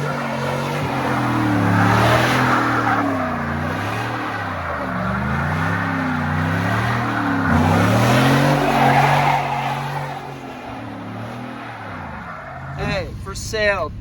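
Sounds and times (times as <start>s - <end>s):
car engine revving: 0.0s - 14.0s
tyres skidding: 0.0s - 14.0s.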